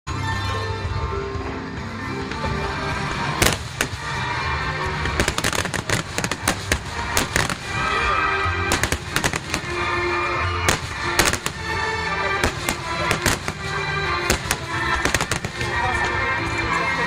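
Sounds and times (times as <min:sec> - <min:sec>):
music playing: 0:00.1 - 0:17.0
fireworks bangs and crackling: 0:02.2 - 0:17.0.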